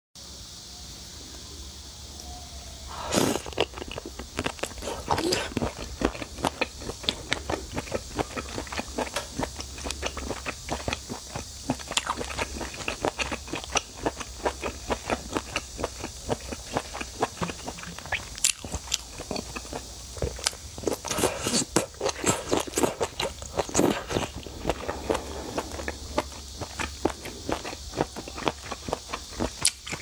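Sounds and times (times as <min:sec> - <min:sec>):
person chewing with mouth clicks: 0:02.9 - 0:30.0.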